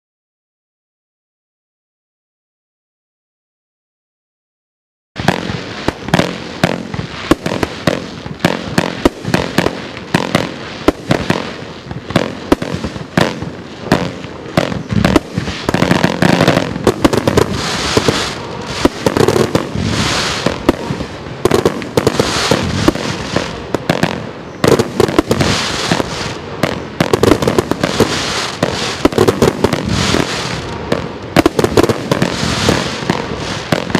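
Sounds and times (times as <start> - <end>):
fireworks cake firing: 5.2 - 33.9.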